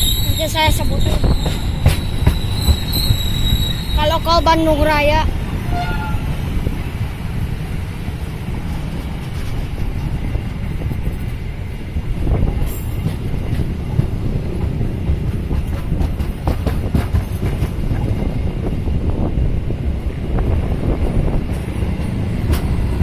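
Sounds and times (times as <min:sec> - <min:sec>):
train rumbling on track: 0:00.0 - 0:23.0.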